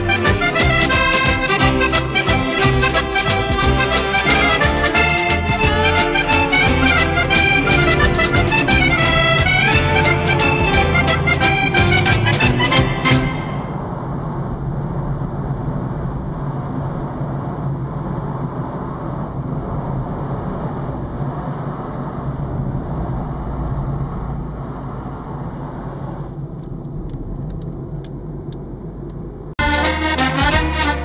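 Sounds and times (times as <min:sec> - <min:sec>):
car driving through tunnel: 0:00.0 - 0:31.0.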